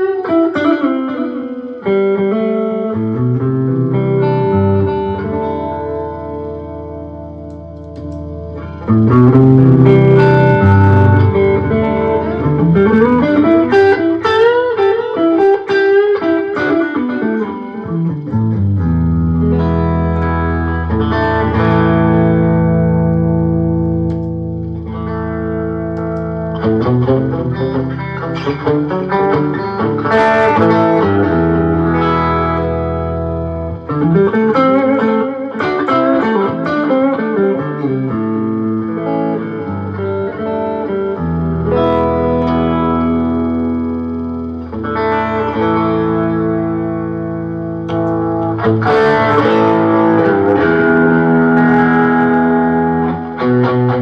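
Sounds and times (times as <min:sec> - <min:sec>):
electric guitar ringing chords: 0:00.0 - 0:54.0
electric guitar sliding runs: 0:00.0 - 0:54.0.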